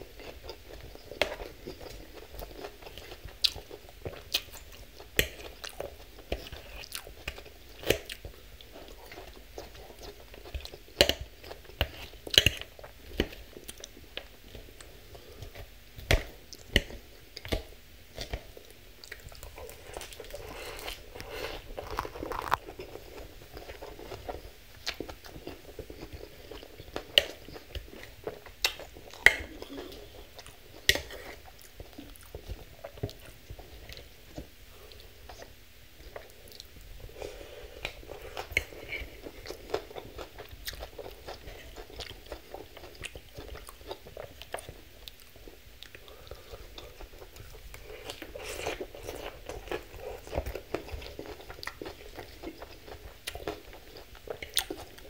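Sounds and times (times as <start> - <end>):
chewing crisp salad greens: 0.0 - 55.0.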